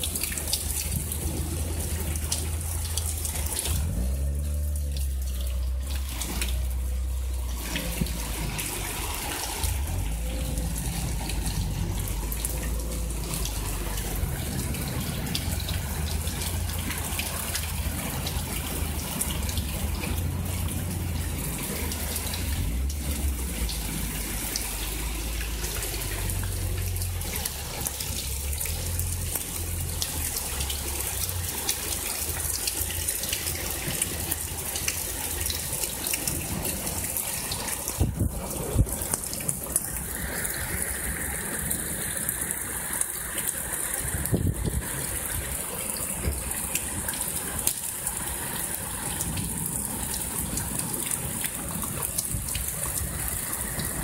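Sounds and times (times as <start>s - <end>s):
heavy rain pouring: 0.0s - 54.0s
low uneven rumble: 0.0s - 54.0s.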